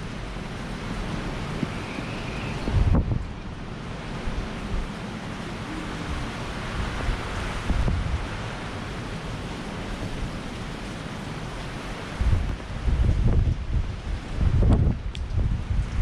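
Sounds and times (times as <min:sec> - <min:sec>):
strong wind buffeting microphone: 0:00.0 - 0:10.6, 0:11.9 - 0:16.0.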